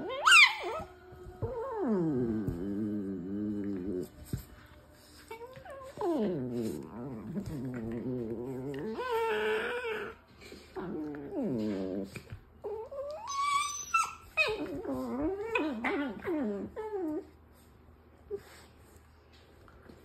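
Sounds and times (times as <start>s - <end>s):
dog whining: 0.0s - 4.2s, 5.3s - 17.3s.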